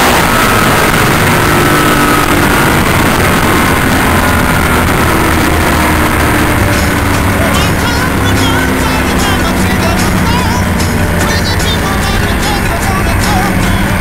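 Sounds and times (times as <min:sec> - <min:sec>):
car engine roaring: 0:00.0 - 0:14.0
wind noise: 0:00.0 - 0:14.0.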